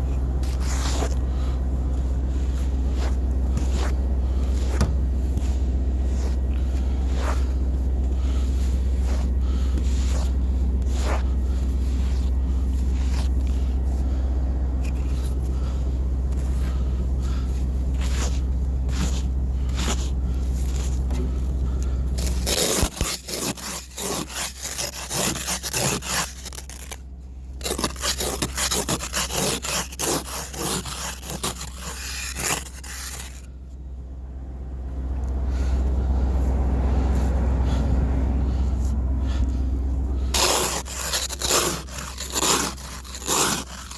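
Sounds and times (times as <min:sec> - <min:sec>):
scraping and rustling strokes: 0:00.0 - 0:14.2, 0:14.8 - 0:33.6, 0:35.5 - 0:43.9
engine idling: 0:00.0 - 0:43.9.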